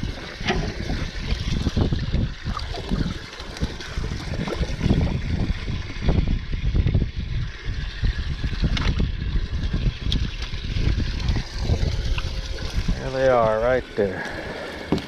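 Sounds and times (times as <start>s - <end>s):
water trickling and sloshing: 0.0s - 15.0s
wind buffeting microphone: 0.0s - 15.0s.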